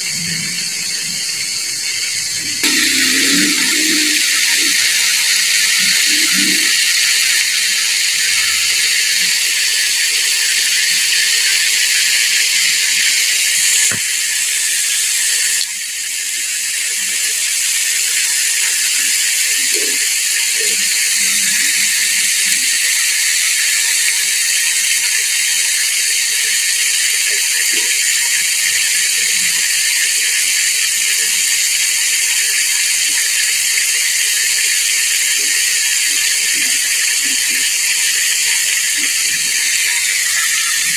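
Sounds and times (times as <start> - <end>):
hot oil sizzling: 0.0 - 40.9.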